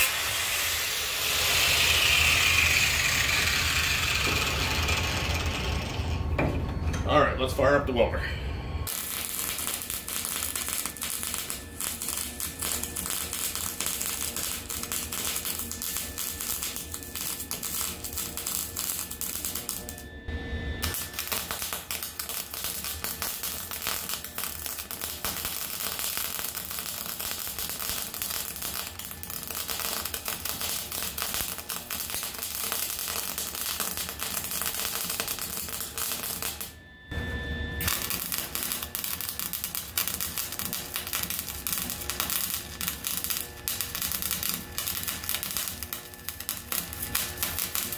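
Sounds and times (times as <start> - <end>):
welding arc crackling: 0.0 - 6.2, 8.9 - 20.0, 20.8 - 36.8, 37.8 - 47.9.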